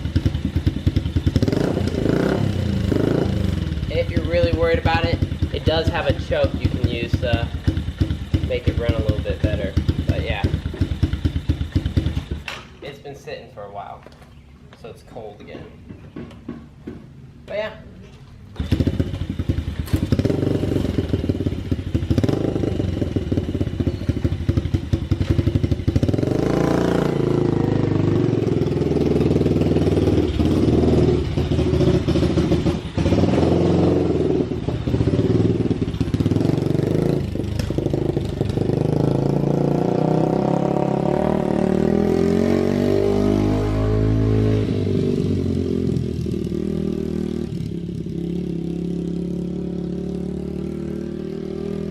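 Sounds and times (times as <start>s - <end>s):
pit bike engine revving: 0.0s - 12.8s, 18.6s - 51.9s.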